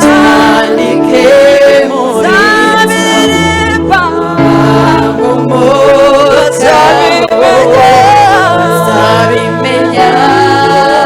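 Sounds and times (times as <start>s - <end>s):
voices singing gospel song: 0.0s - 11.0s.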